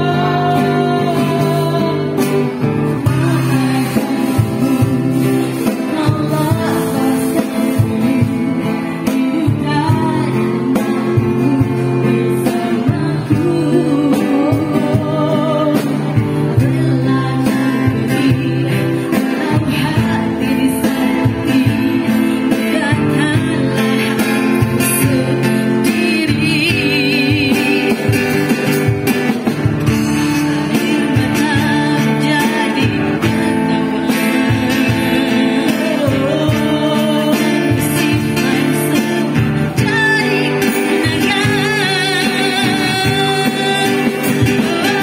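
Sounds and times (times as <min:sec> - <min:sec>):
drum kit with snare and cymbals: 0:00.0 - 0:45.0
strummed acoustic guitar: 0:00.0 - 0:45.0
woman singing into microphone: 0:00.0 - 0:45.0.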